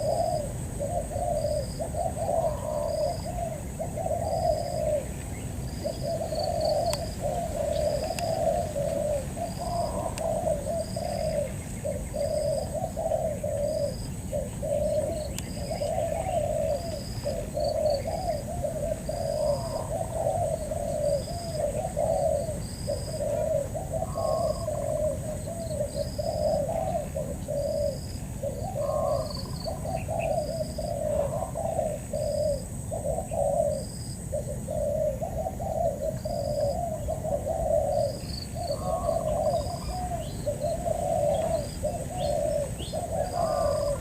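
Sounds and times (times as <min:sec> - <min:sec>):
doves cooing: 0:00.0 - 0:44.0.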